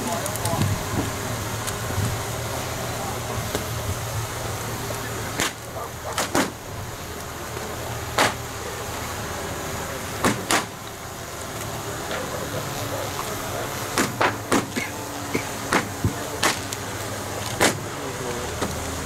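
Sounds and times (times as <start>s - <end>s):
fire cracking sharply: 0.0s - 19.0s
steady rush of fire: 0.0s - 19.0s.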